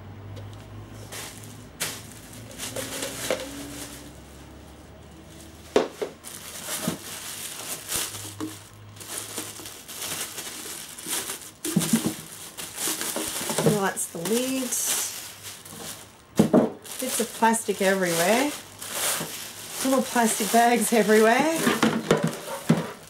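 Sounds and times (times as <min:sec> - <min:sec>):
plastic bags crinkling: 0:00.9 - 0:23.0.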